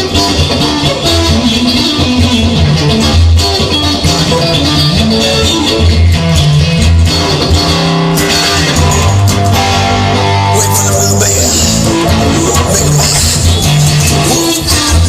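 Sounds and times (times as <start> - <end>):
bass line: 0.0 - 15.0
guitar-led instrumental music: 0.0 - 15.0.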